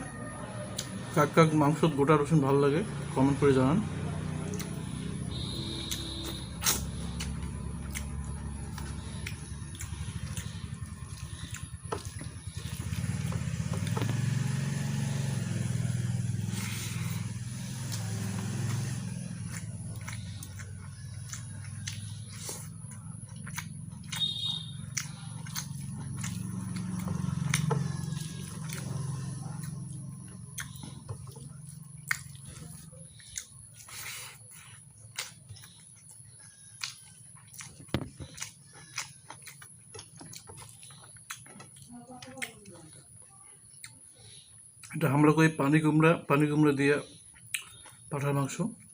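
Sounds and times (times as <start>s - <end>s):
person chewing: 3.9s - 45.1s, 47.2s - 48.1s.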